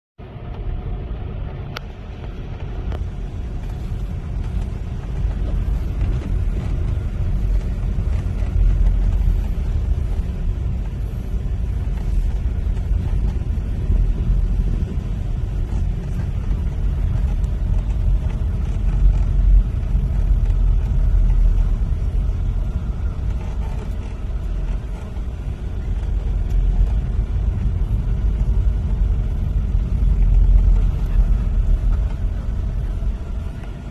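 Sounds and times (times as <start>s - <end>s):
vehicle interior rumble: 0.2s - 33.9s.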